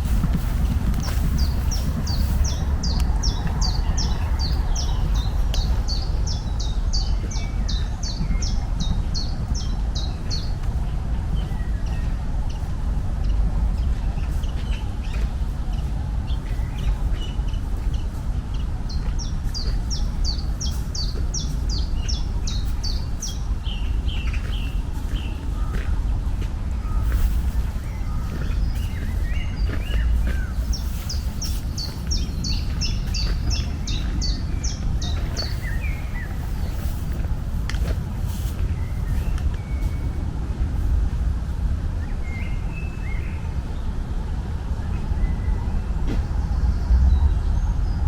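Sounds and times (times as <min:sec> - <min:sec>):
bird chirping: 0:00.0 - 0:40.9
low rumble: 0:00.0 - 0:48.0.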